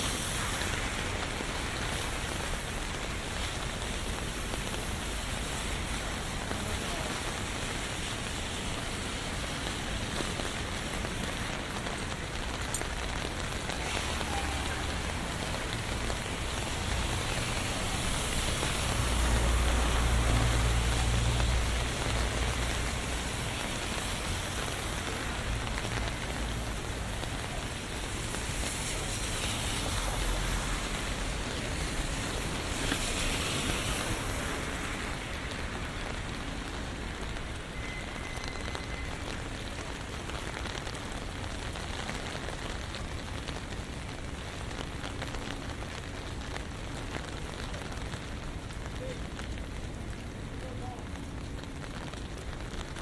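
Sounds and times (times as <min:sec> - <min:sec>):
rain on umbrella: 0:00.0 - 0:53.0.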